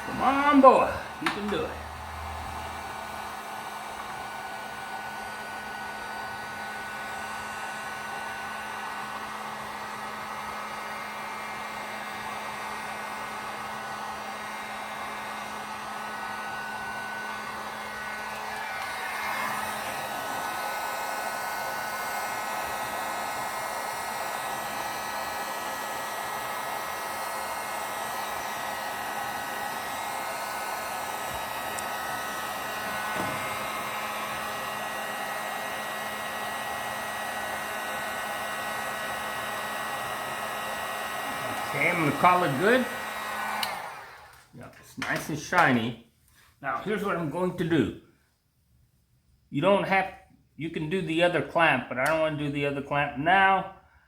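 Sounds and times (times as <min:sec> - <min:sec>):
heat gun blowing: 0:00.0 - 0:44.5.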